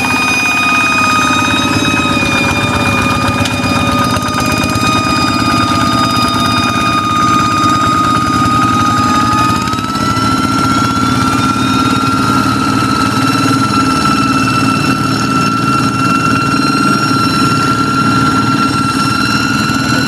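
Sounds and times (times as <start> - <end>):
hand tractor engine running: 0.0 - 20.0
high jet-like whistle: 0.0 - 20.0.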